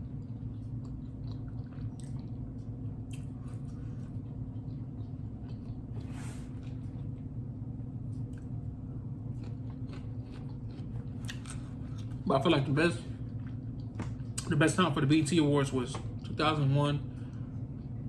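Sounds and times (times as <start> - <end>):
man chewing: 0.0 - 14.6
steady low hum: 0.0 - 18.0.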